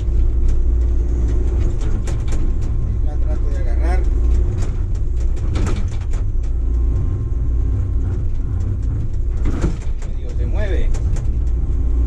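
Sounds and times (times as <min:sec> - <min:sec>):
excavator diesel engine rumble: 0:00.0 - 0:12.0.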